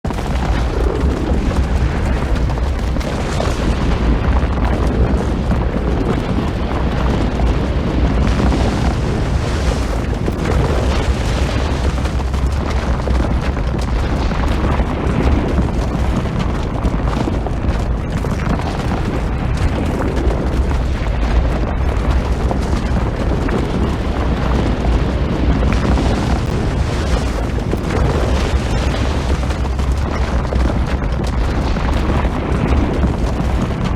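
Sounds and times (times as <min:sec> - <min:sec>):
deep rumble of sliding snow: 0:00.1 - 0:33.9.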